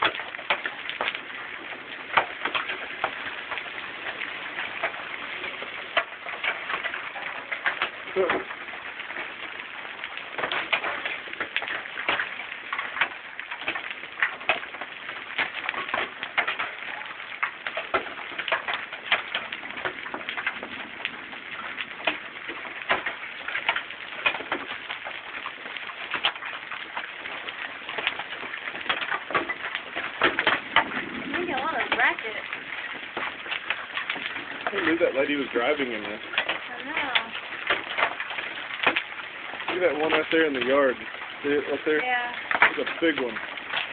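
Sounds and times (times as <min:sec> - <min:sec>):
hailstones clattering: 0:00.0 - 0:43.9
rain hiss: 0:00.0 - 0:43.9.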